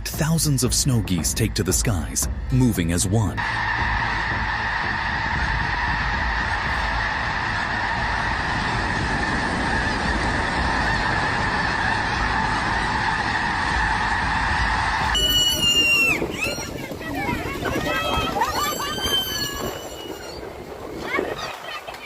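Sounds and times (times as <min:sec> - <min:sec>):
low rumble: 0:00.0 - 0:21.0
geese honking: 0:02.8 - 0:20.5.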